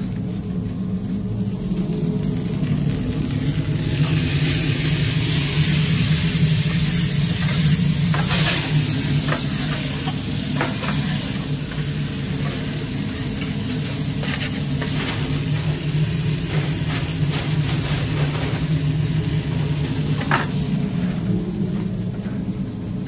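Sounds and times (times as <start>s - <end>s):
burger patties sizzling on grill: 0.0s - 21.4s
steady low hum: 0.0s - 23.0s.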